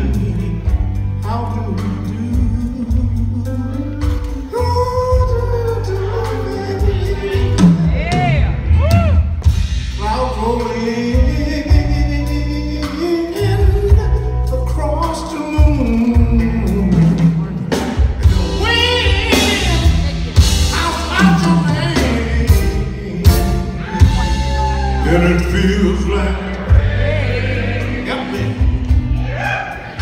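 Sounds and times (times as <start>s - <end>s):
man singing: 0.0s - 8.5s, 9.9s - 28.8s
live blues band playing: 0.0s - 30.0s.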